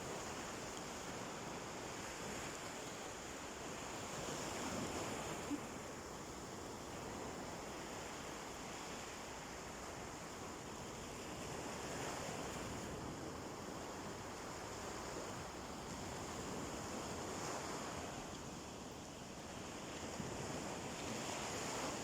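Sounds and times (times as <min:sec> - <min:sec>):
sea waves washing onto beach: 0:00.0 - 0:22.0.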